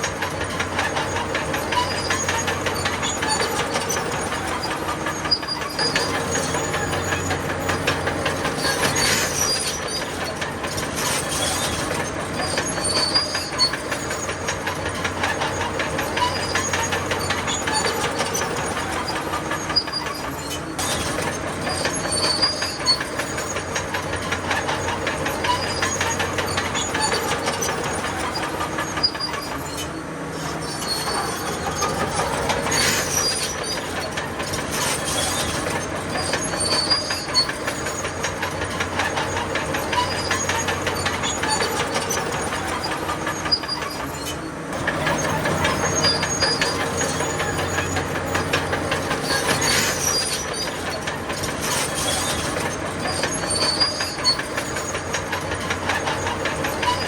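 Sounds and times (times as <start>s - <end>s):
diesel engine running: 0.0s - 57.0s
high squeals of track links: 0.0s - 57.0s
steel tracks clattering: 0.0s - 57.0s.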